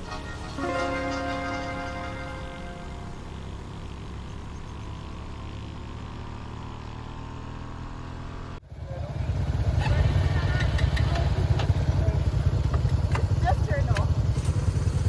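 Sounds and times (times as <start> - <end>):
motorbike engines running: 0.0 - 15.0.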